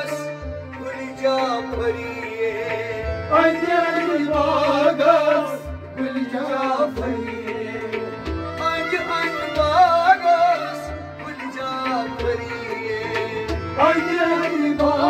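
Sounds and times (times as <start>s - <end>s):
harmonium tones: 0.0s - 15.0s
man singing: 0.0s - 15.0s.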